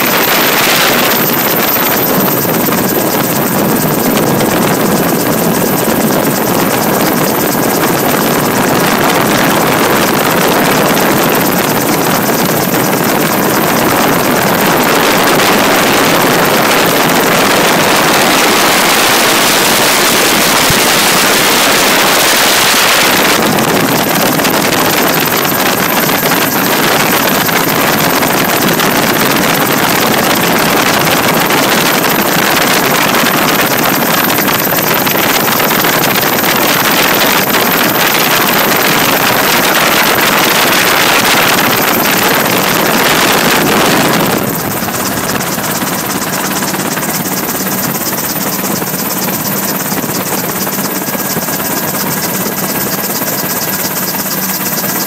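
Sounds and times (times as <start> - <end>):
aircraft engine inside cabin: 0.0 - 55.0.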